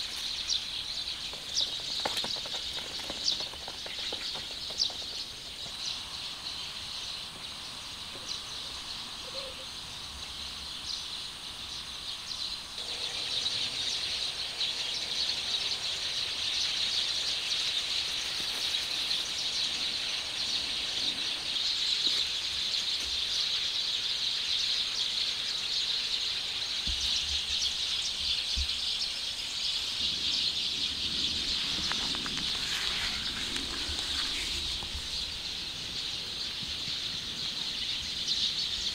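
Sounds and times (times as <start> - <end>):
birds chirping: 0.0 - 38.9
insects chirping: 0.0 - 38.9.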